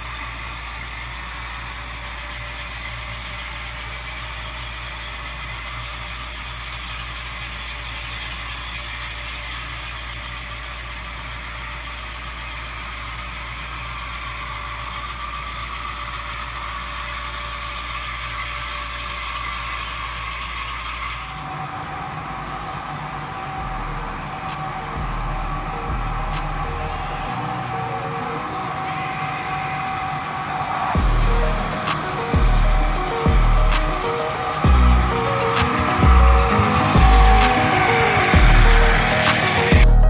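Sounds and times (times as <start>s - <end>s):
model train rolling rumble: 0.0s - 39.6s
diesel engine sound from speaker: 0.0s - 40.0s.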